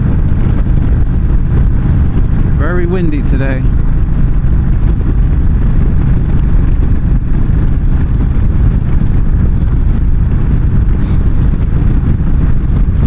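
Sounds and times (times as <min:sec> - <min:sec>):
motorcycle engine cruising: 0:00.0 - 0:13.0
wind buffeting microphone: 0:00.0 - 0:13.0.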